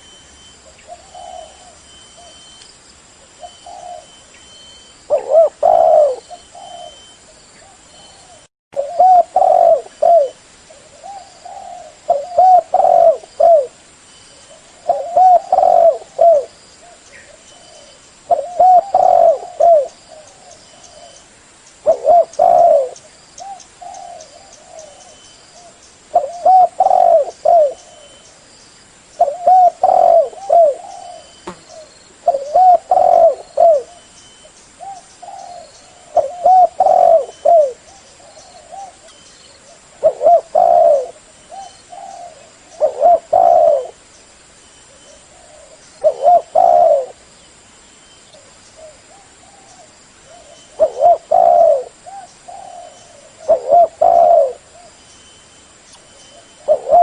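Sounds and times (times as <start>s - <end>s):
dove cooing: 0.6s - 2.5s, 3.2s - 4.3s, 5.1s - 13.8s, 14.4s - 21.2s, 21.8s - 28.2s, 29.2s - 34.1s, 34.8s - 44.0s, 44.9s - 47.2s, 48.4s - 55.0s, 56.3s - 57.0s.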